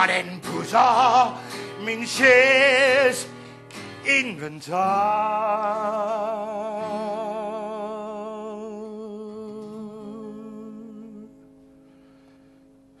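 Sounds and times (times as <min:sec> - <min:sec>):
man singing with vibrato: 0:00.0 - 0:11.5.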